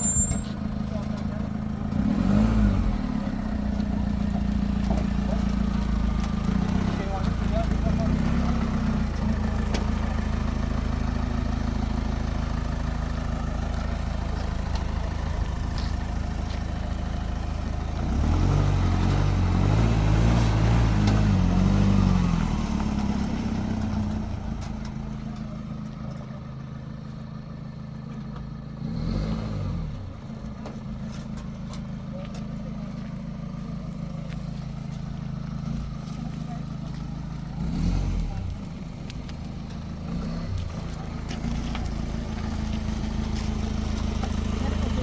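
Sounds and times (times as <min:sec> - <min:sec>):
vehicle engine revving: 0:00.0 - 0:26.0, 0:28.7 - 0:31.3, 0:34.3 - 0:45.0.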